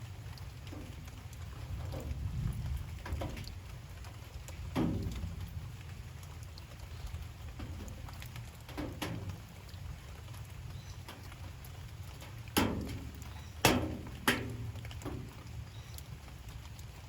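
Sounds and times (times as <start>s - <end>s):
steady low rumble: 0.0s - 16.6s
light rain falling: 0.0s - 17.0s.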